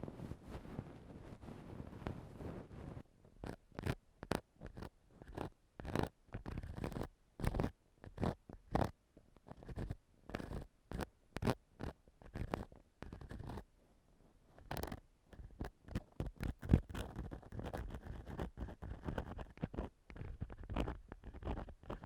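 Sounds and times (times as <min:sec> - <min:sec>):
ear tool scratching microphone: 0:00.1 - 0:13.7, 0:14.6 - 0:22.0.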